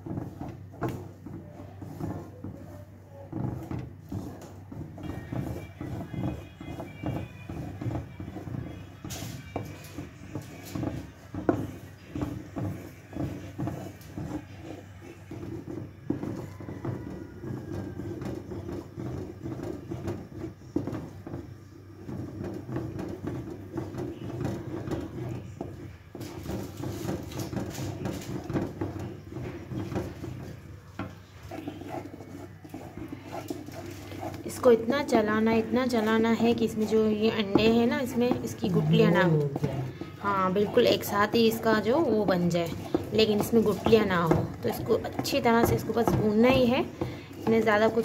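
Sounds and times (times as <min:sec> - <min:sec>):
spatula scraping metal pan: 0:00.0 - 0:48.0.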